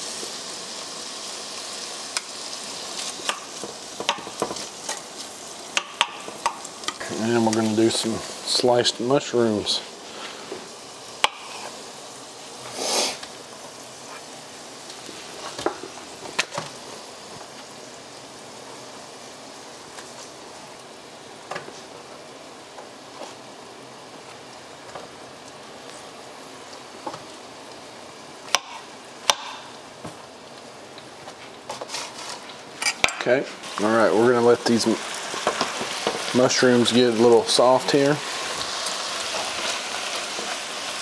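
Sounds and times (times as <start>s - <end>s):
pork and garlic sizzling in a pan: 0.0s - 41.0s.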